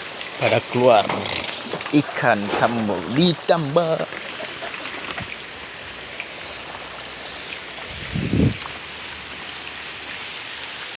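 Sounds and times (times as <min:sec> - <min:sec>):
rain and running floodwater: 0:00.0 - 0:11.0.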